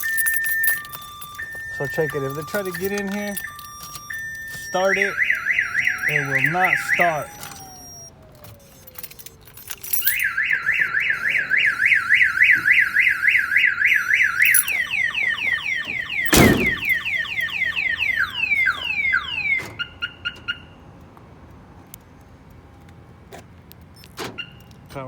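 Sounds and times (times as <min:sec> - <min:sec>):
car alarm siren: 0:00.0 - 0:20.8.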